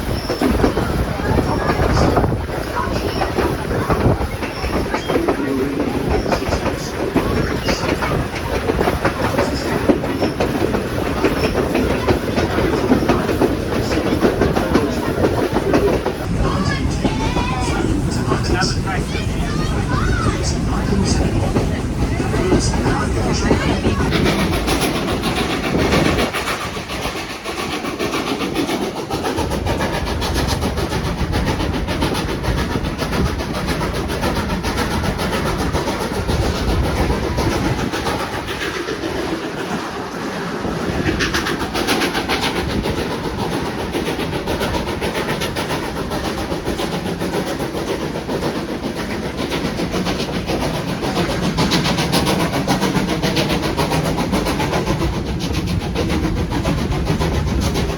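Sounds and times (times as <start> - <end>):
train wheels rattling on rails: 0.0 - 57.9.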